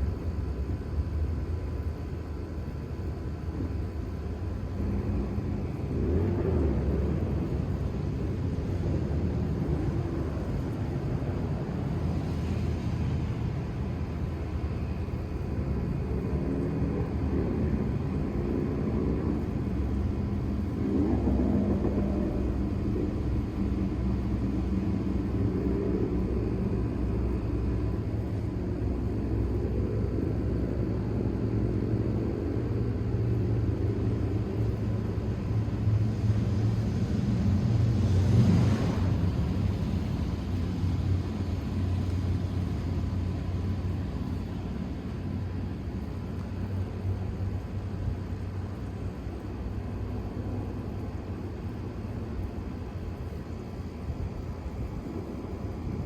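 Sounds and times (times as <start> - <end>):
low engine rumble: 0.0 - 56.0.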